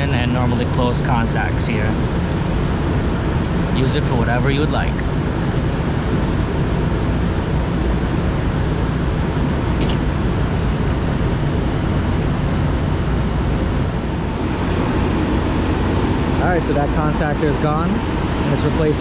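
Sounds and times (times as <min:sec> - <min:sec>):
chiller fans rushing: 0:00.0 - 0:19.0.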